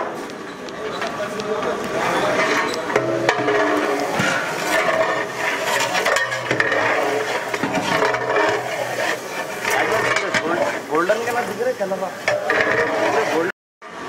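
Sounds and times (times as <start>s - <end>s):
metal ladle scraping a pot: 1.9s - 13.5s.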